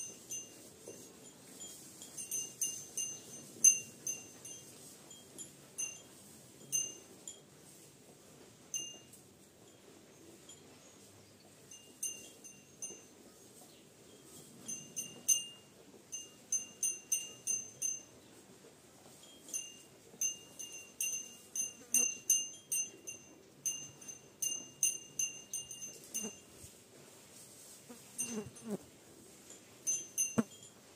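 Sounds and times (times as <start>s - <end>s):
small metal bell clinking: 0.0s - 7.5s, 8.7s - 18.3s, 19.1s - 26.6s, 28.2s - 28.8s, 29.4s - 30.9s.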